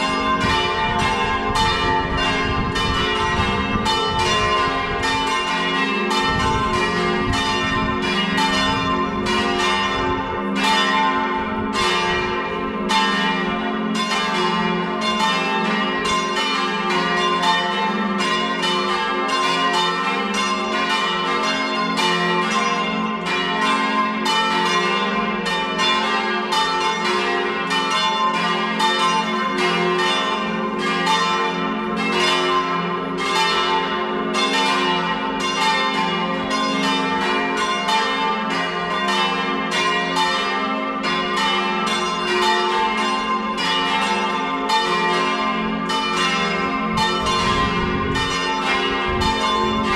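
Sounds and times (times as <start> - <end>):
church bells pealing: 0.0 - 49.9.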